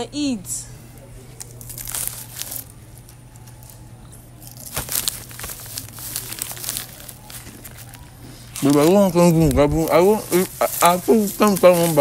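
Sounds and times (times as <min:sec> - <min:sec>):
plastic packet crinkling: 0:01.4 - 0:03.8, 0:04.4 - 0:12.0.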